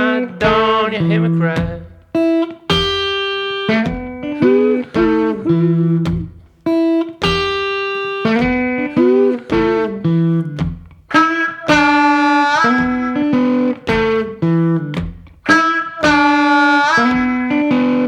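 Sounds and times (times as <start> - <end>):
guitar playing blues riff: 0.0 - 18.0.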